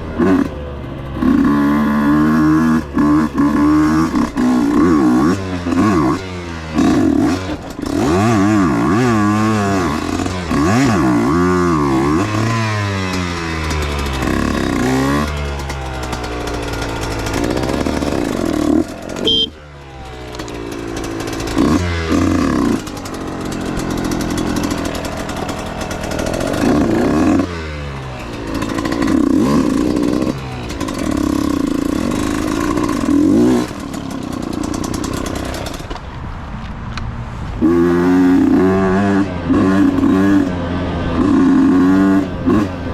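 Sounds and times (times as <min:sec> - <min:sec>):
dirt bike engine revving: 0:00.0 - 0:36.0, 0:37.6 - 0:42.9.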